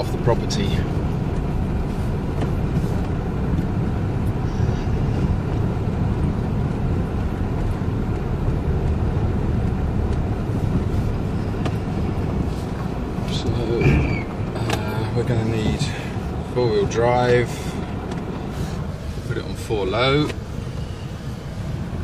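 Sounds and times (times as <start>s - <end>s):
vehicle engine and tyre rumble: 0.0s - 22.0s.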